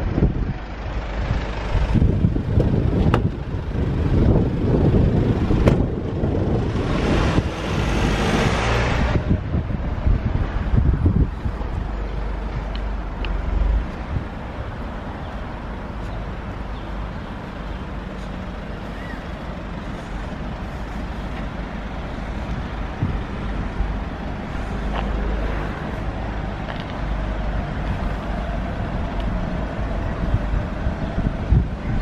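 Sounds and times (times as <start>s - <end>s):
diesel van engine rumbling: 0.0s - 32.0s.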